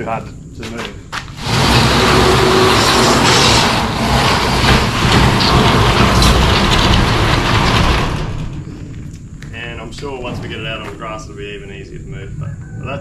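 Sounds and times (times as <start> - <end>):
wooden skids scraping concrete: 0.6 - 12.1.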